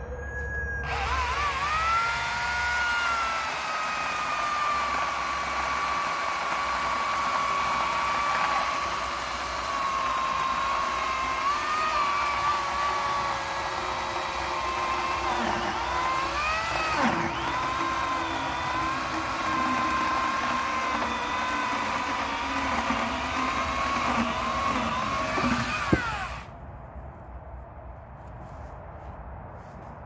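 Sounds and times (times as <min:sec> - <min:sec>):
electric saw cutting wood: 0:00.8 - 0:26.5.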